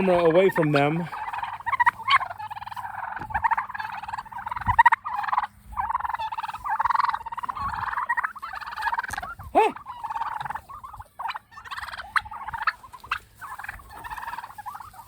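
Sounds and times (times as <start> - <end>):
turkeys gobbling: 0.0 - 15.0.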